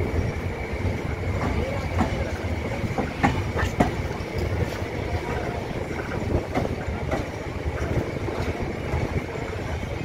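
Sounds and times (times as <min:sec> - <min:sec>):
train wheels rumbling: 0:00.0 - 0:10.0
wheels clacking over rails: 0:01.0 - 0:09.6.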